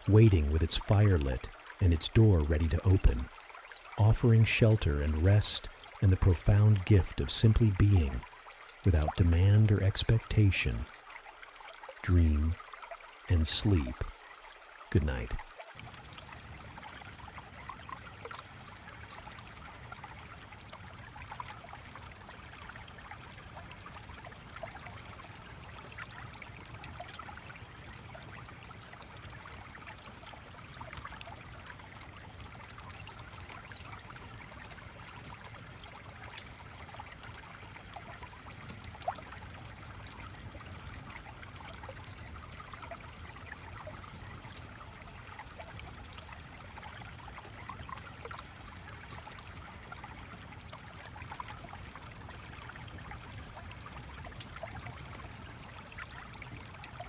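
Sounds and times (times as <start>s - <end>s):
water trickling over stones: 0.0s - 57.0s.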